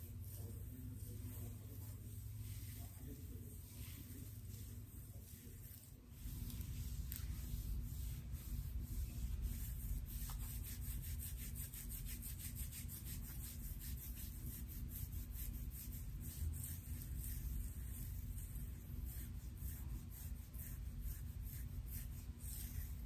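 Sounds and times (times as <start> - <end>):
fingernails scratching hair: 0.0 - 23.0.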